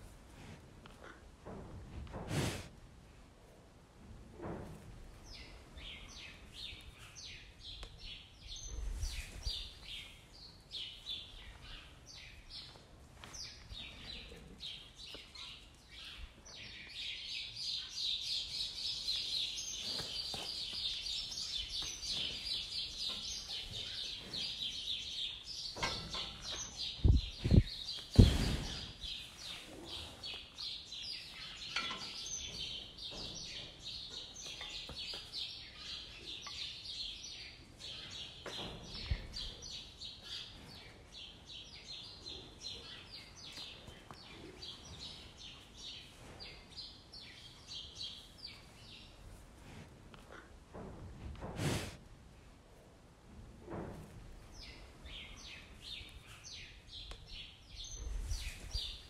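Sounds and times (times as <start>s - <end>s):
small birds chirping: 5.1s - 49.4s, 54.4s - 59.0s.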